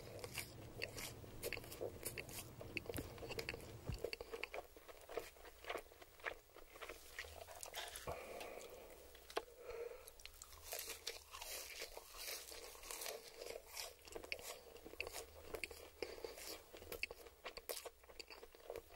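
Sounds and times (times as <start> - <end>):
chewing crispy food crunches: 0.0 - 18.9.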